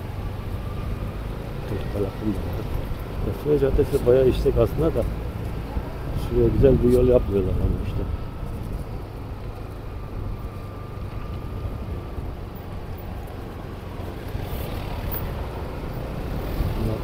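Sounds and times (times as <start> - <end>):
car driving on paving stones: 0.2 - 17.0.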